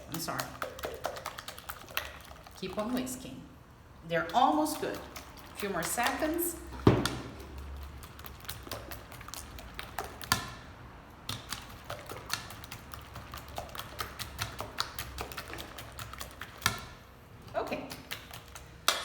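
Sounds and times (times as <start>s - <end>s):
whisk clicking against bowl: 0.0s - 3.0s, 4.2s - 17.0s, 17.8s - 19.0s.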